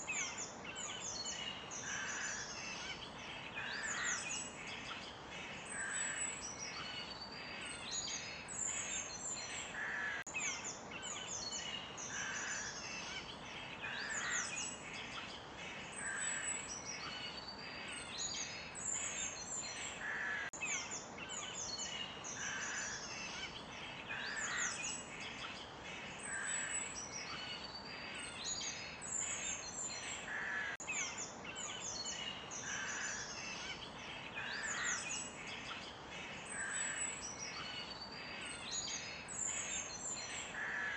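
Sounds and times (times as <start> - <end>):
birds chirping and singing: 0.0 - 40.9
steady background hiss: 0.0 - 40.9.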